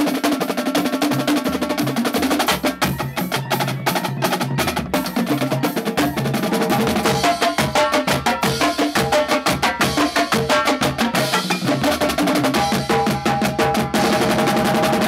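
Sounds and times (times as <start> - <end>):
snare drum strokes and rolls: 0.0 - 15.0.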